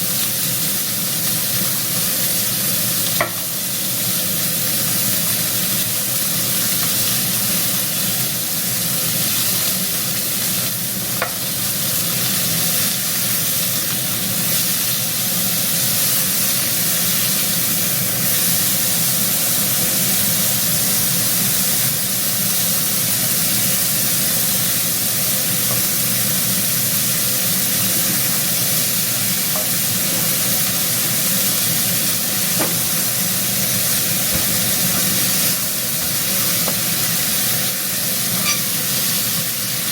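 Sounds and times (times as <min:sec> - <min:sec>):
meat sizzling in hot oil: 0:00.0 - 0:39.9.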